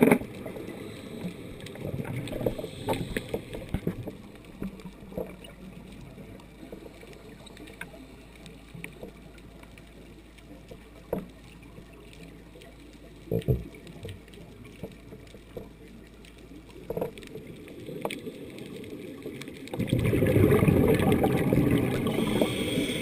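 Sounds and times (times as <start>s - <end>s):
small clicks: 0.0s - 19.9s
muffled underwater rumble: 0.0s - 23.0s.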